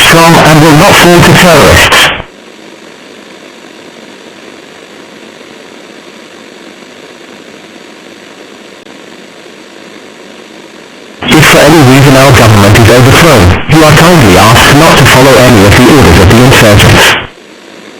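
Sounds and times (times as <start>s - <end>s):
static hiss: 0.0s - 17.9s.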